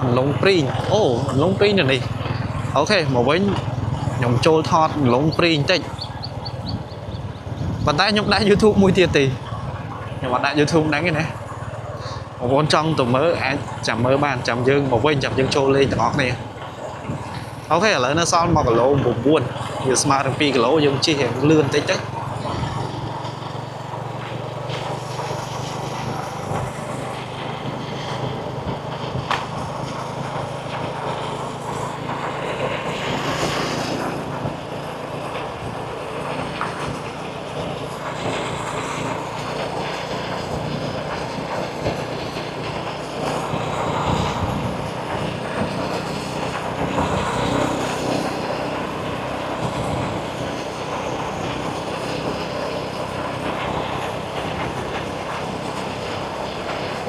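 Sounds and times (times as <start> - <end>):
engine drone: 0.0 - 57.0
outdoor background noise: 0.0 - 57.0.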